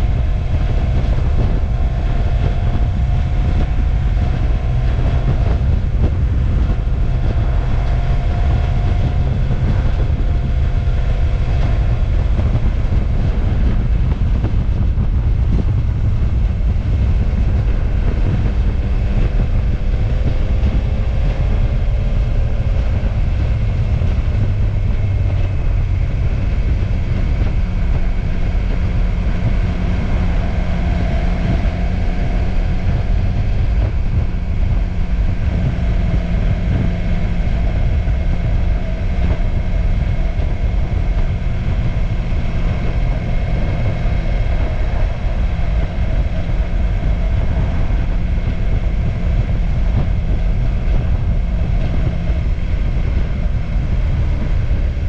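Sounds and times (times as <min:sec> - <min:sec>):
motorcycle engine running: 0:00.0 - 0:55.0
wind rush on microphone: 0:00.0 - 0:55.0.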